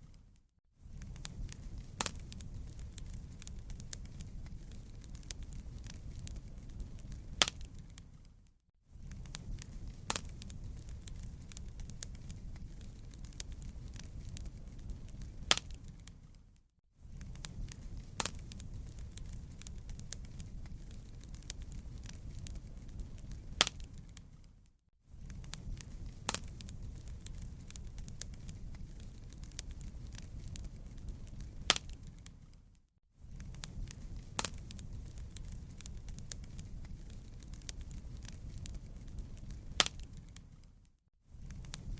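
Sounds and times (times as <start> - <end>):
wood fire crackling: 0.0 - 41.9
sharp pops of fire: 0.9 - 8.3, 9.0 - 16.4, 17.1 - 24.4, 25.2 - 32.6, 33.2 - 40.7.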